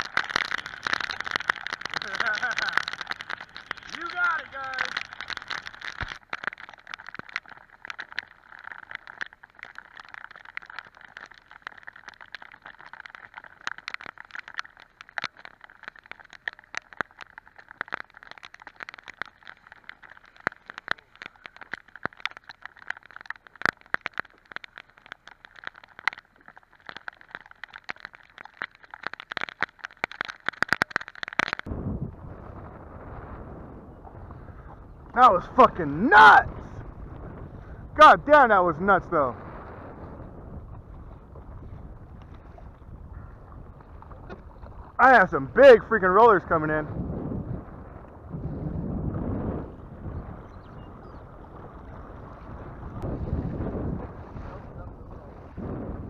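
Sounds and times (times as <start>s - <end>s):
rain and water spray tapping: 0.0s - 56.0s.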